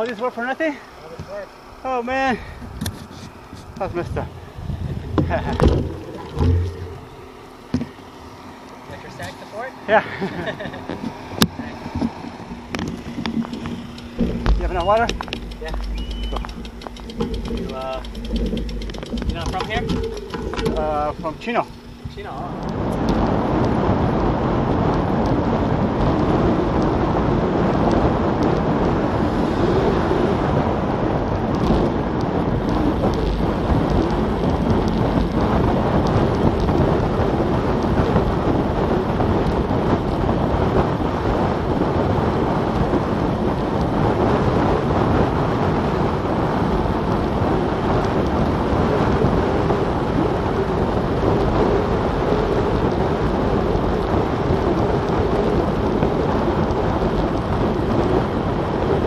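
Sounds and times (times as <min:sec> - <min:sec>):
wind buffeting microphone: 0:00.6 - 0:09.4, 0:10.0 - 0:59.0.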